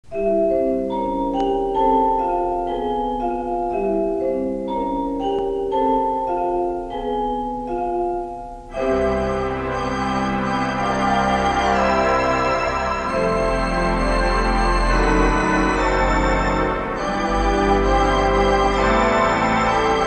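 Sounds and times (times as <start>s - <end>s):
theatre organ playing chords: 0.1s - 20.0s.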